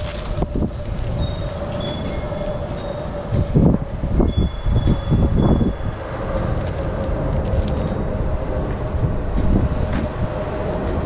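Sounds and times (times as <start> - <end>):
faint wind chimes tinkling: 0.0 - 11.0
wind buffeting microphone: 0.0 - 11.0.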